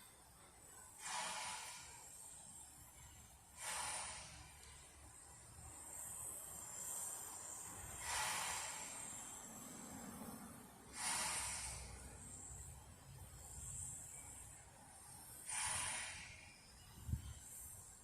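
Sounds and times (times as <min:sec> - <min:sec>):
steam locomotive hissing chuffs: 0:00.9 - 0:18.0.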